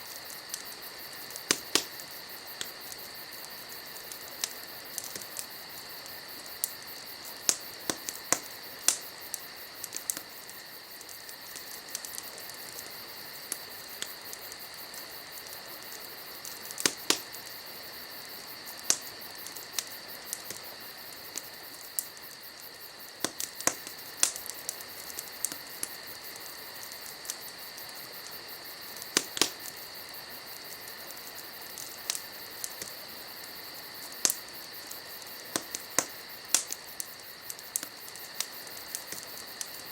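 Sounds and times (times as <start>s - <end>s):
insects chirring: 0.0s - 39.9s
wood fire crackling: 0.0s - 39.9s.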